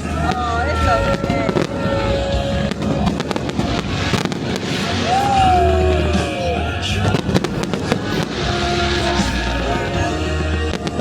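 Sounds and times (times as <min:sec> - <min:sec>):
fireworks popping and crackling: 0:00.0 - 0:11.0
music: 0:00.0 - 0:11.0.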